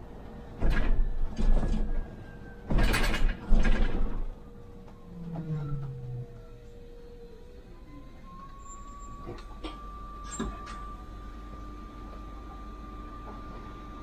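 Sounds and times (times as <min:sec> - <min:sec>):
low bus hum: 0:00.0 - 0:14.0.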